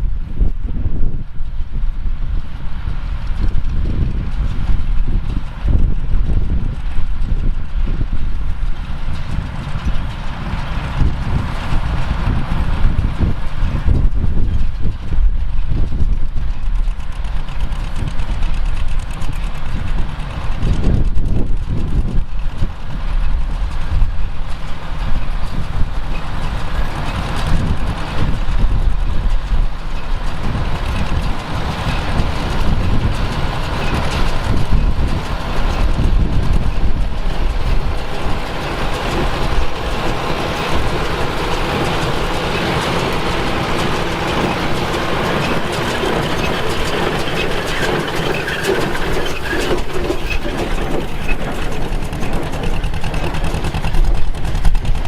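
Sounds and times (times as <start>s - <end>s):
tractor diesel engine running: 0.0s - 55.0s
hay baler mechanical noise: 0.1s - 55.0s.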